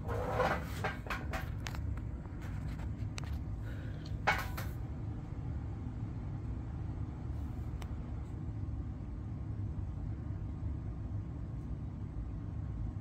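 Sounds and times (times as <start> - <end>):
ceiling fan low rumble: 0.0 - 13.0.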